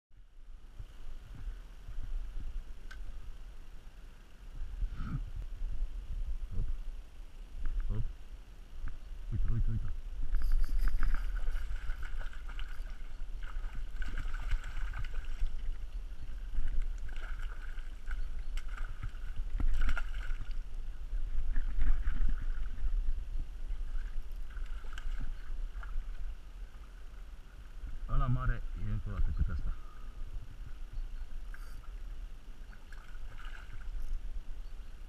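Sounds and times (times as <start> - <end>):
wind rumble on microphone: 0.2 - 35.0.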